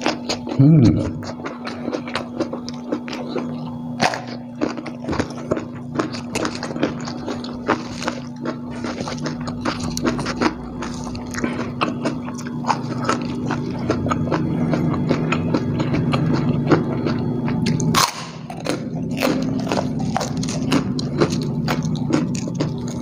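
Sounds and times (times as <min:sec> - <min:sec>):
person chewing crunchy food: 0:00.0 - 0:23.0
steady low hum: 0:00.0 - 0:23.0.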